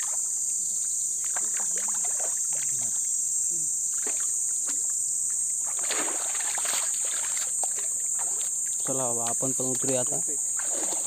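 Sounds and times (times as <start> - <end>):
high-pitched insect drone: 0.0 - 11.0
muddy water sloshing and splashing: 1.1 - 3.1, 3.9 - 11.0.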